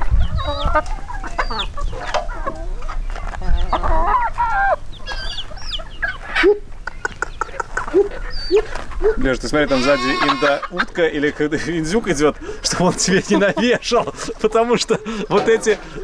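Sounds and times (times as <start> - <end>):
chickens clucking and squawking: 0.0 - 16.0.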